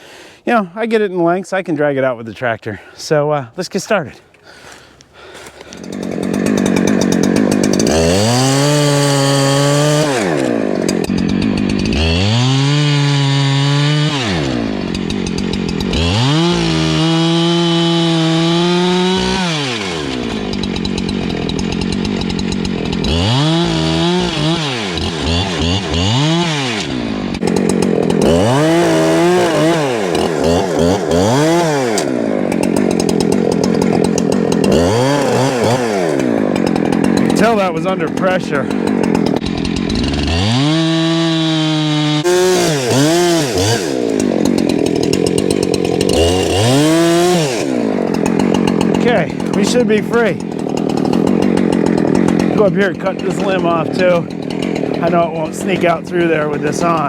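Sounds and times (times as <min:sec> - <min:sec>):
chainsaw revving and cutting wood: 0:04.5 - 0:57.0.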